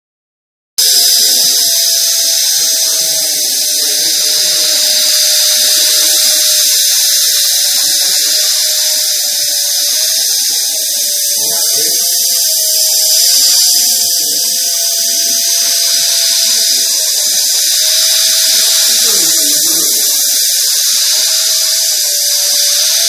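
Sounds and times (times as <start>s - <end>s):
machine high-pitched hiss: 0.8s - 23.0s
machine whine: 0.8s - 23.0s.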